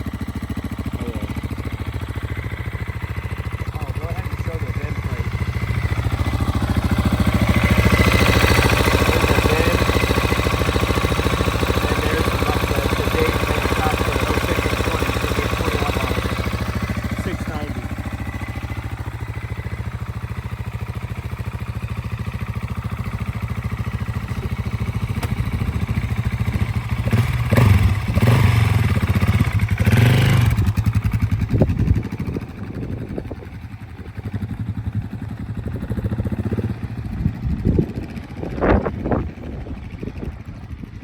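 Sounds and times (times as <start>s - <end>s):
motorcycle engine idling and revving: 0.0s - 41.0s.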